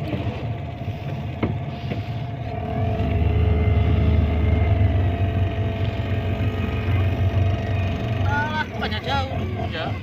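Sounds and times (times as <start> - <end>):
motorboat engine drone: 0.0 - 10.0.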